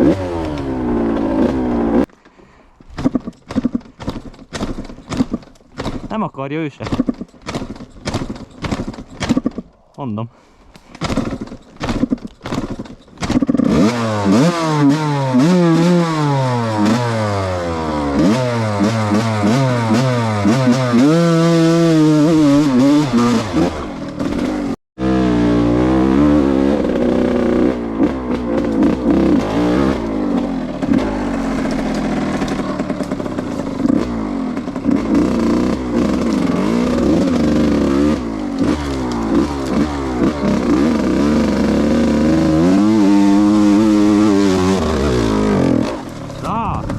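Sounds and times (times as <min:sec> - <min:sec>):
two-stroke motorcycle engine revving: 0:00.0 - 0:02.1, 0:11.0 - 0:46.9.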